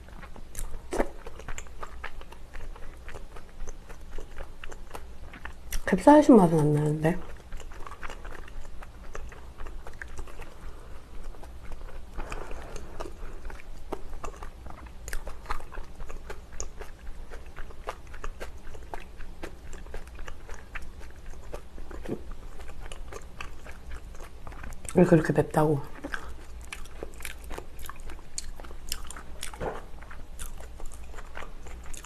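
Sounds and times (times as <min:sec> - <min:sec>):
chewing with mouth clicks: 0:00.0 - 0:25.2, 0:25.8 - 0:32.0.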